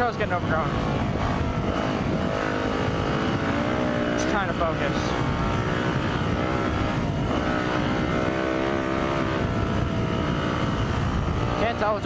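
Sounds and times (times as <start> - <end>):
dirt bike engine under throttle: 0.0 - 12.0
wind rumble on microphone: 0.0 - 12.0.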